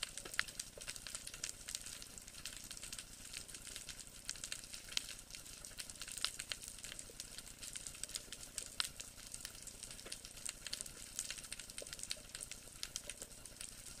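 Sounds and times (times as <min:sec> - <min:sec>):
underwater reef crackling: 0:00.0 - 0:14.0.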